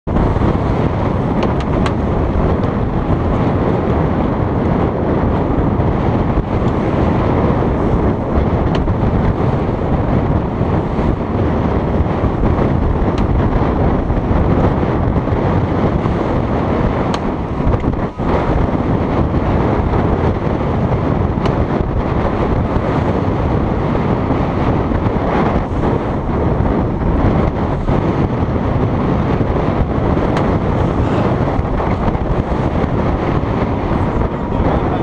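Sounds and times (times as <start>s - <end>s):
strong wind buffeting microphone: 0.0s - 35.0s
water rushing along hulls: 0.0s - 35.0s.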